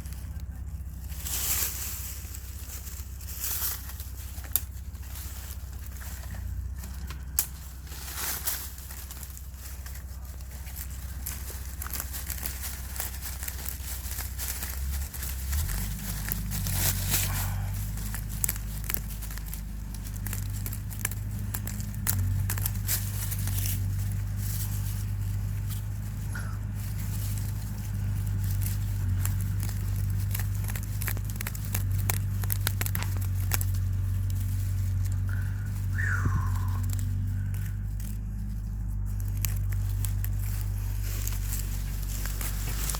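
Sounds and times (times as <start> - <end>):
steady low hum: 0.0 - 42.9
stick scraping in soil: 0.0 - 42.9.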